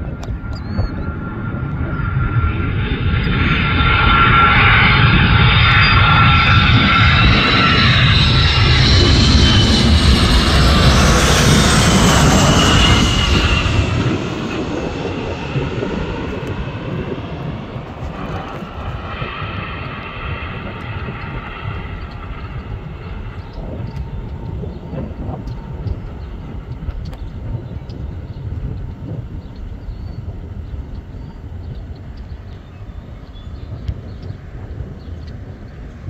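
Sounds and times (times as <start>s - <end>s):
jet aircraft passing overhead: 0.0s - 36.0s.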